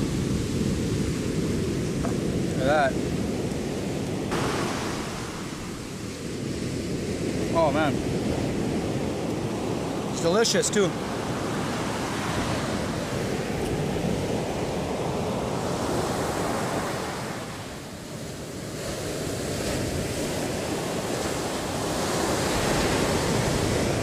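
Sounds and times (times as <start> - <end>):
ocean surf on beach: 0.0 - 24.0
wind buffeting microphone: 0.0 - 24.0.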